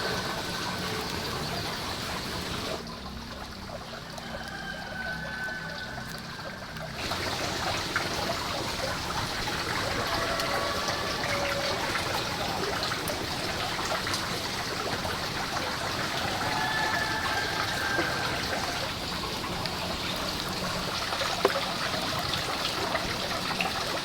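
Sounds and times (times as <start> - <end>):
water pouring: 0.0 - 24.0.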